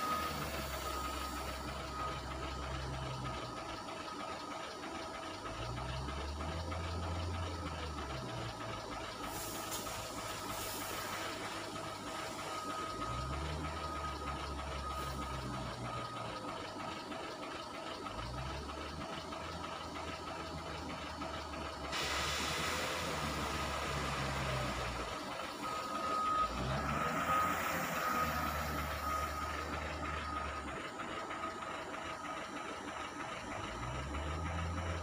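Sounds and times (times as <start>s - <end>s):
diesel engine revving: 0.0s - 35.0s
reversing alarm beeping: 0.0s - 35.0s.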